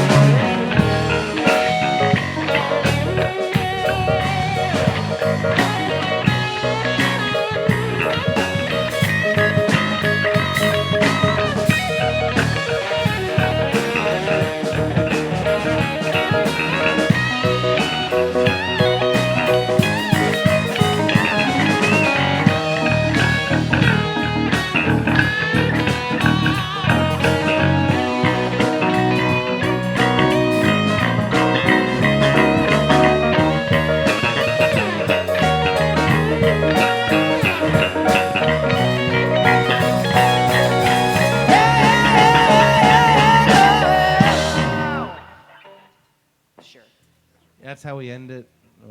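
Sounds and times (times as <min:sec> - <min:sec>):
bass and drums groove: 0:00.0 - 0:45.2
electric guitar: 0:00.0 - 0:46.7.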